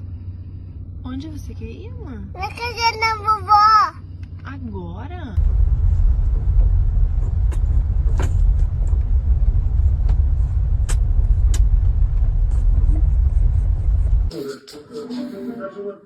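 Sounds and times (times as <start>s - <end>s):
loud steady low rumble: 0.0s - 14.3s.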